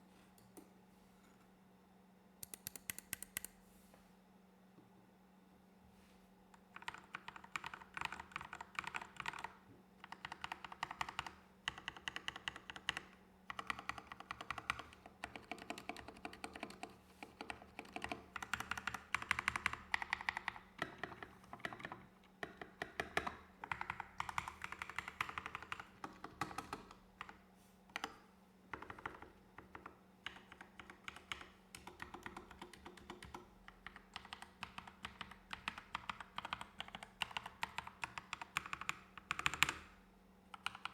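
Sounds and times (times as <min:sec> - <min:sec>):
mechanical keyboard typing: 0:02.4 - 0:03.5, 0:06.6 - 0:40.9.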